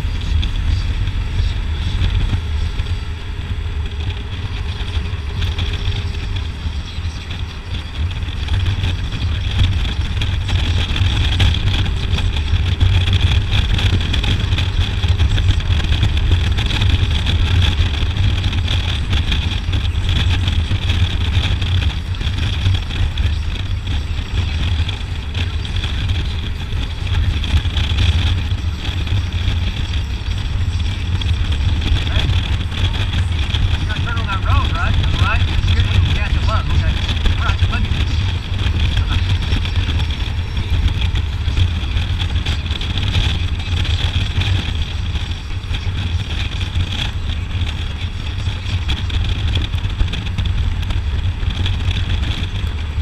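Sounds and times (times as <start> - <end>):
motorcycle engine cruising: 0.0 - 53.0
wind rushing across microphone: 0.0 - 53.0.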